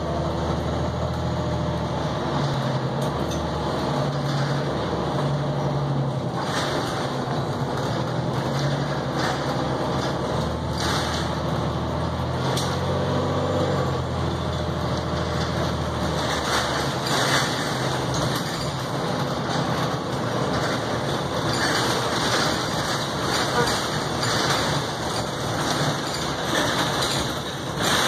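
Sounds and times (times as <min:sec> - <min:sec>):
bus engine drone: 0:00.0 - 0:28.0
road and cabin noise: 0:00.0 - 0:28.0.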